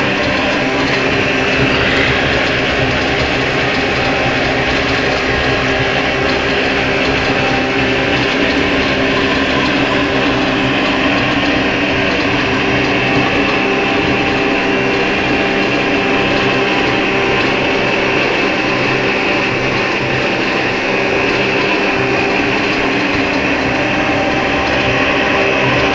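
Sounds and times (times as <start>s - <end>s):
oil heater mechanical hum: 0.0s - 25.9s.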